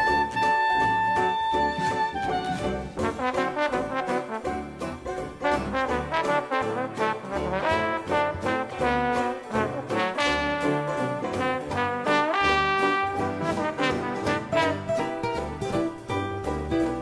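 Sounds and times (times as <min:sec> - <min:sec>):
upbeat jazz with brass: 0:00.0 - 0:17.0.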